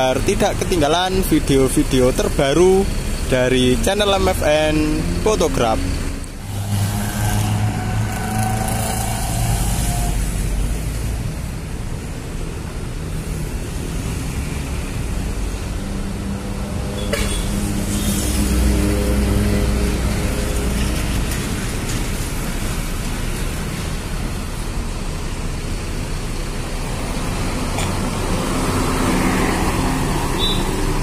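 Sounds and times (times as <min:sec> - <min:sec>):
bus diesel engine driving past: 0:00.0 - 0:16.8, 0:17.4 - 0:31.0.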